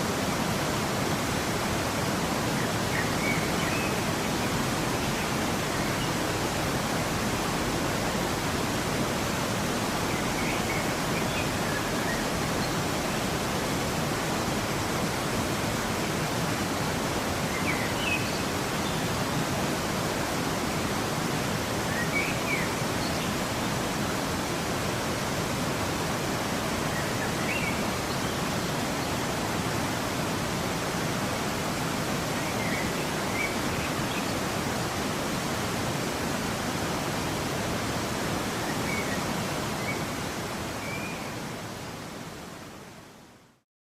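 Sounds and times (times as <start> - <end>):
waterfall rushing: 0.0 - 43.2.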